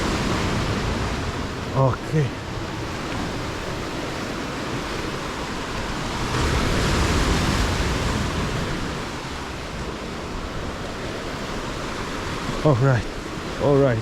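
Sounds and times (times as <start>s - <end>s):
ocean surf on rocky shore: 0.0s - 14.0s.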